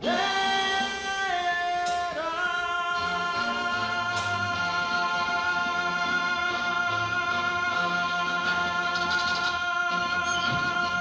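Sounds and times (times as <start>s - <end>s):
band accompaniment: 0.0s - 11.0s
person singing a long note: 0.0s - 11.0s.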